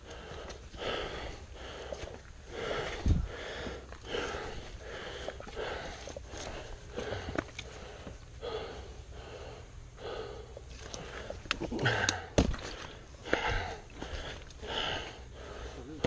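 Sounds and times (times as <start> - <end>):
person breathing hard: 0.0 - 16.0.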